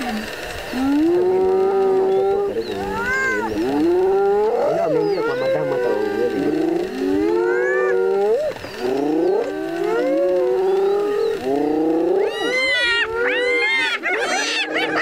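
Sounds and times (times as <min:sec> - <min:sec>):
hyenas calling: 0:00.0 - 0:15.0.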